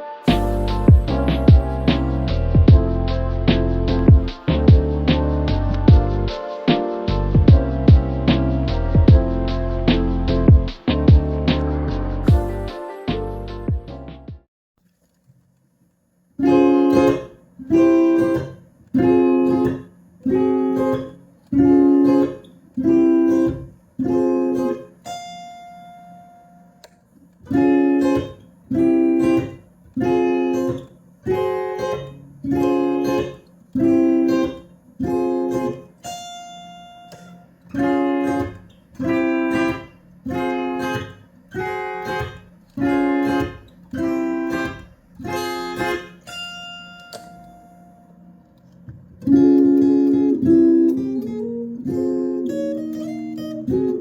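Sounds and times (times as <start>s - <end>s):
electric guitar chords strummed: 0.0s - 14.4s, 16.4s - 24.8s, 27.5s - 35.9s, 37.1s - 48.1s, 49.2s - 54.0s.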